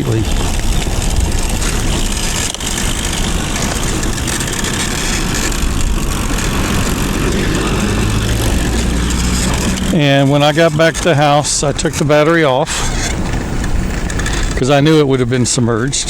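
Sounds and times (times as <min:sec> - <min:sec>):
tricycle rolling noise: 0:00.0 - 0:16.0
wind buffeting microphone: 0:00.0 - 0:16.0.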